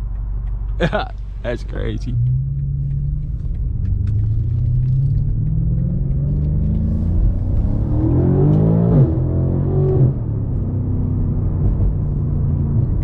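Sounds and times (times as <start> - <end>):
car engine accelerating hard: 0.7 - 13.0.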